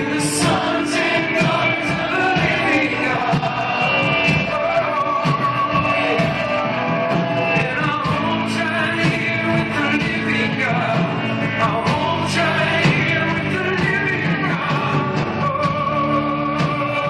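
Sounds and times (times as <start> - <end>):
drum and cymbal hits: 0.0 - 17.0
person singing: 0.0 - 17.0
worship band playing: 0.0 - 17.0.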